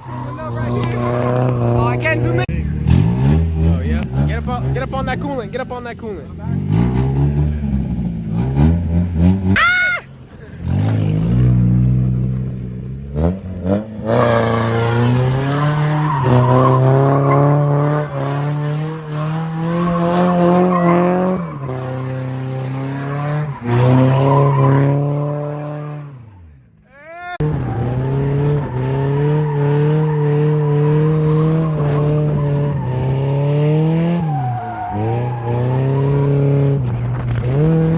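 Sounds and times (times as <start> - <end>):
car engine at high revs: 0.0 - 26.5, 27.4 - 37.9.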